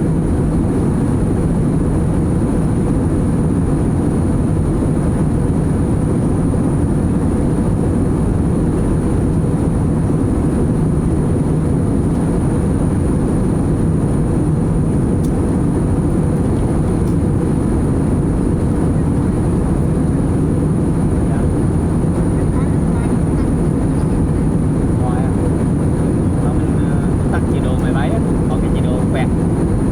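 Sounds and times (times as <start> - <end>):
jet cabin engine and airflow noise: 0.0 - 29.9.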